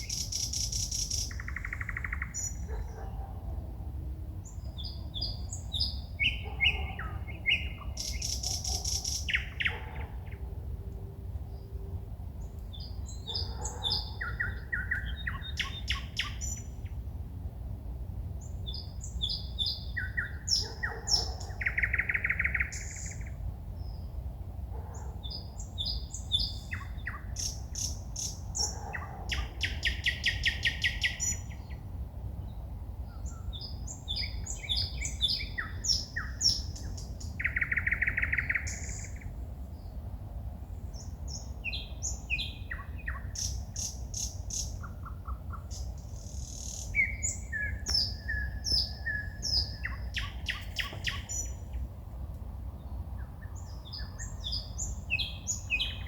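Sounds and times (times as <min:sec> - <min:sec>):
songbird singing: 0:00.0 - 0:17.2, 0:18.2 - 0:56.0.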